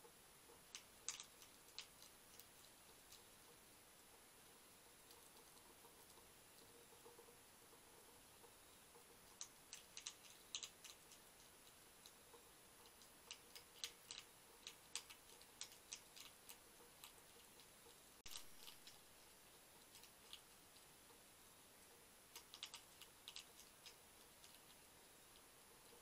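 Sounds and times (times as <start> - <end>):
hedgehog crunching dry biscuits: 0.5 - 3.6, 4.4 - 7.2, 8.9 - 26.0.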